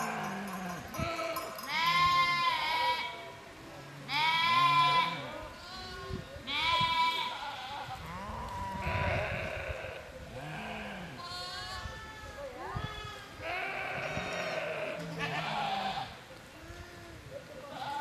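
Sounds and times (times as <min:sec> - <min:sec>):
sheep and goats bleating: 0:00.0 - 0:03.4, 0:04.0 - 0:18.0.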